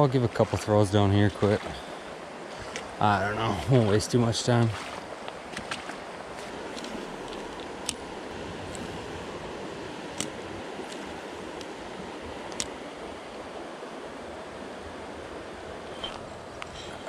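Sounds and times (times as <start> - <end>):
river water rushing over rapids: 0.5 - 17.0.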